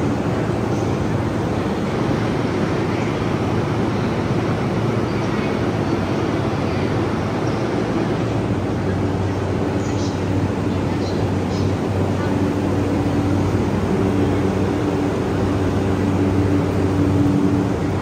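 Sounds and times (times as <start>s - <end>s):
station noise: 0.0s - 18.0s
train equipment humming: 0.0s - 18.0s.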